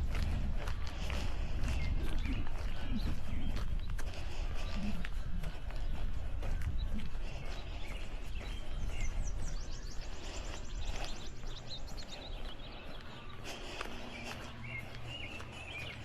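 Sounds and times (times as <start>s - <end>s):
songbirds singing: 0.0s - 16.0s
steady low rumble: 0.0s - 16.0s.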